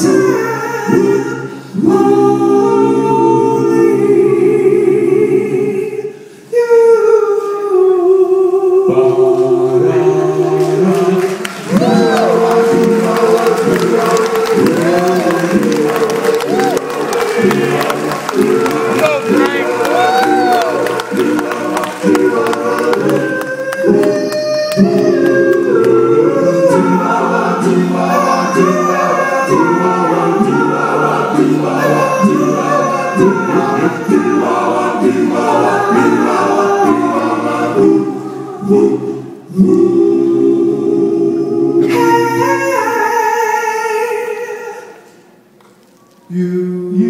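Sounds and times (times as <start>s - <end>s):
doo-wop group singing in harmony: 0.0s - 45.2s, 46.3s - 47.0s.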